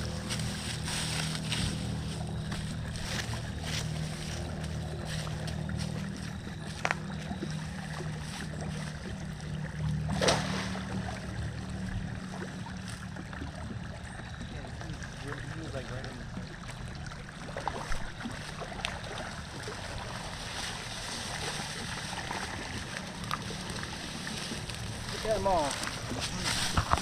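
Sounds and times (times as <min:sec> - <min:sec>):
low motor hum: 0:00.0 - 0:27.0
moving water: 0:00.0 - 0:27.0.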